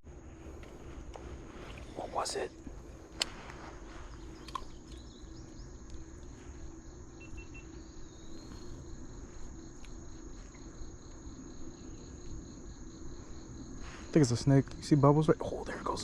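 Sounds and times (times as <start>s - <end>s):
insects chirring: 0.0s - 16.0s
low outdoor rumble: 0.0s - 16.0s.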